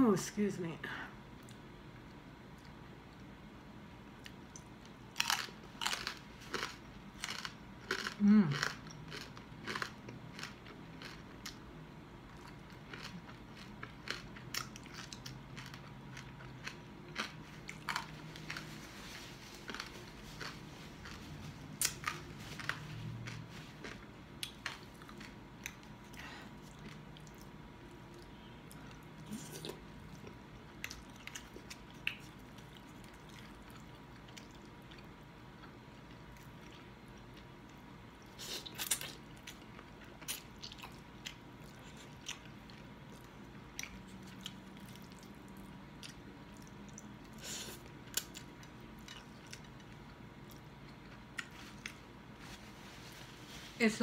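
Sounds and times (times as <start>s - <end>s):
person chewing crispy food: 4.2s - 53.4s.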